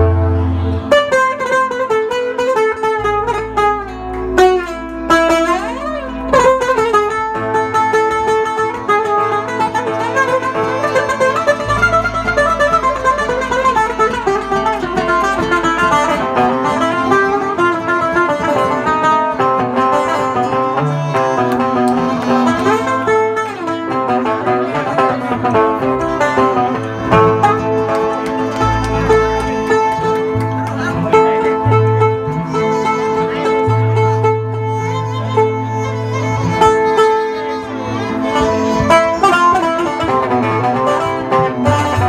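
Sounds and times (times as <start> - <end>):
acoustic guitar accompaniment: 0.0 - 42.0
oud melody: 0.0 - 42.0.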